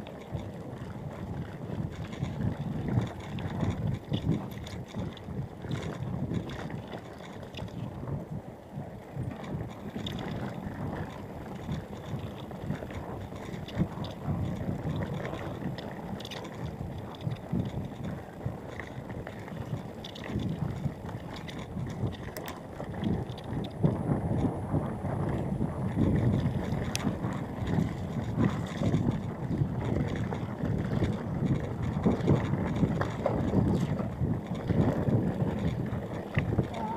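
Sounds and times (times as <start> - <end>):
bike clicks and rattles: 0.0 - 36.9
bike tyre rumble on dirt: 0.0 - 36.9
wind buffeting microphone: 0.0 - 36.9.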